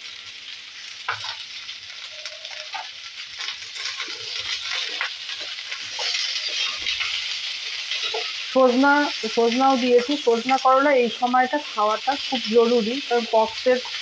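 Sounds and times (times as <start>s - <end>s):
vegetables sizzling in oil: 0.0s - 14.0s
spatula scraping a pan: 1.1s - 14.0s.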